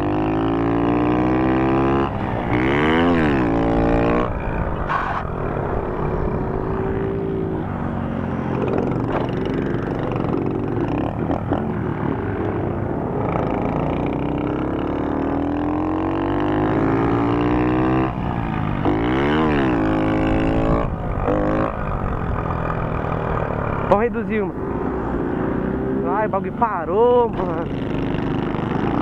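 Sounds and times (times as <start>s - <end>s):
moped engine revving: 0.0s - 29.0s.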